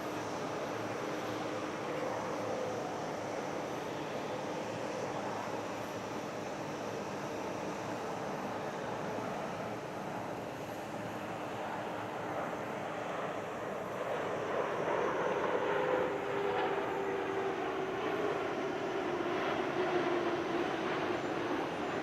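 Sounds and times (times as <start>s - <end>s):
faint falling jet whine: 0.0s - 22.0s.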